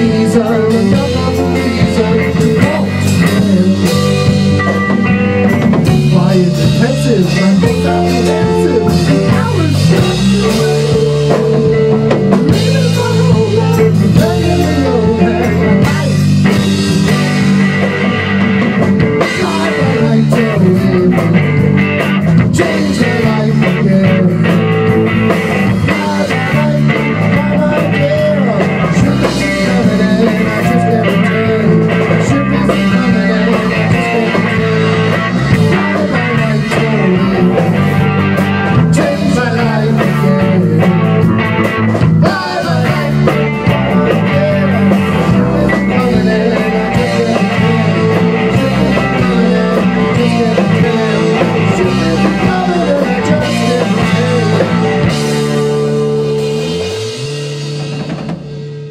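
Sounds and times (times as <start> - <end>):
drum kit: 0.0 - 58.9
electric bass: 0.0 - 58.9
electric guitar: 0.0 - 58.9.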